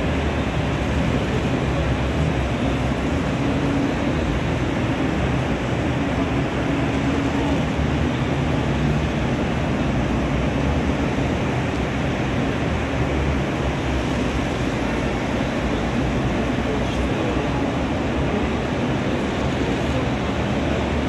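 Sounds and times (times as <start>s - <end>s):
steady noisy background: 0.0s - 21.0s.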